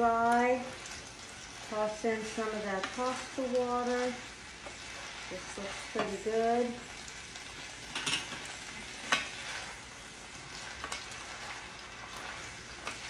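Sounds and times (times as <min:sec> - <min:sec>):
food sizzling in skillet: 0:00.0 - 0:13.0.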